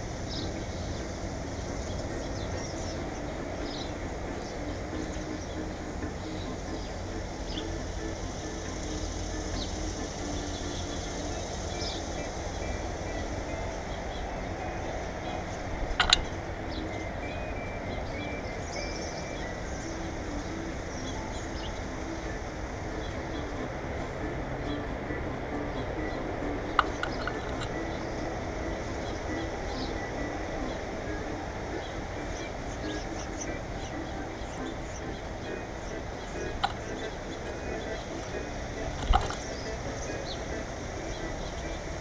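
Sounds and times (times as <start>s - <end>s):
birds chirping: 0.0s - 42.0s
steady low rumble: 0.0s - 42.0s.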